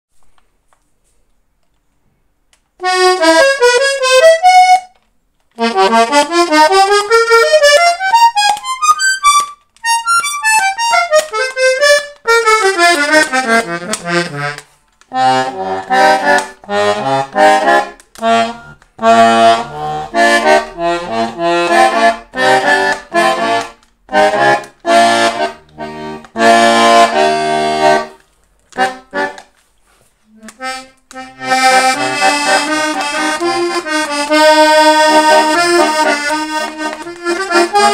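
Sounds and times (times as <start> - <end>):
accordion playing: 2.8 - 37.9.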